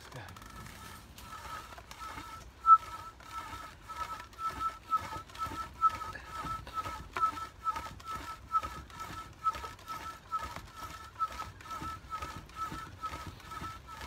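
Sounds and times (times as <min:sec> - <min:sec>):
wooden spindle squeaking: 0:00.0 - 0:14.0.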